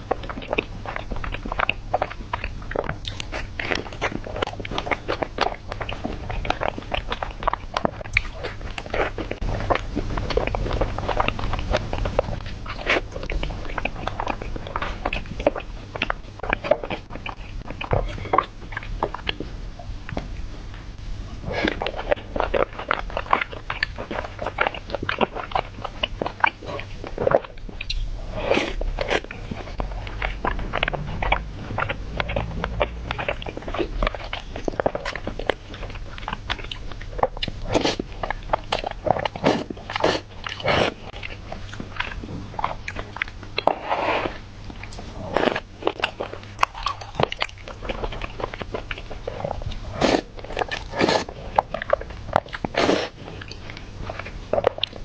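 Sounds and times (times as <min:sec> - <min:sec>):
food crunching: 0:00.0 - 0:20.8, 0:21.4 - 0:55.0
close-miked eating and chewing: 0:00.0 - 0:55.0.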